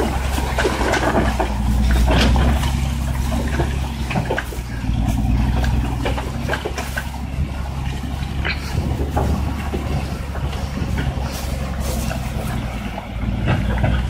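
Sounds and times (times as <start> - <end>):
knocks and rattles: 0.0 - 14.0
truck engine running: 0.0 - 14.0.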